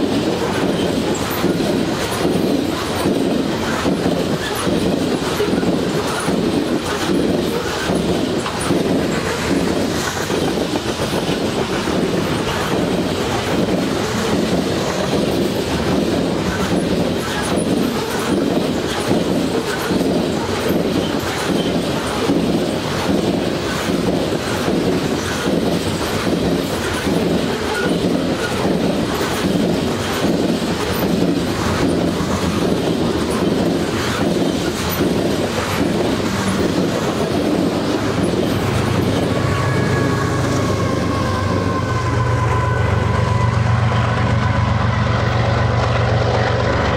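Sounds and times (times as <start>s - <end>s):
freight train wheels clicking: 0.0s - 46.9s
locomotive passing: 0.0s - 46.9s.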